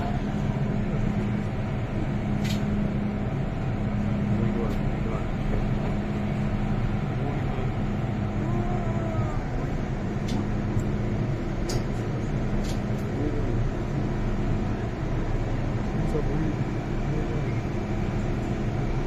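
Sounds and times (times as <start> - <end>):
train car hum and rumble: 0.0 - 19.0.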